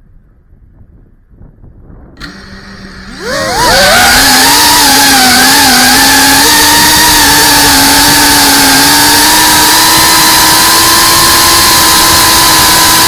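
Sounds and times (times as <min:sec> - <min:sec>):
drone propeller whine: 0:02.2 - 0:13.0.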